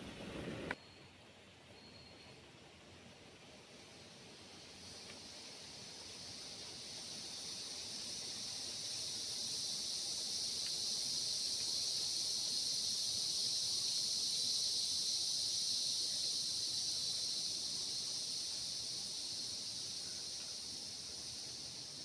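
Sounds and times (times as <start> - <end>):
insect chorus buzzing: 3.6 - 22.0.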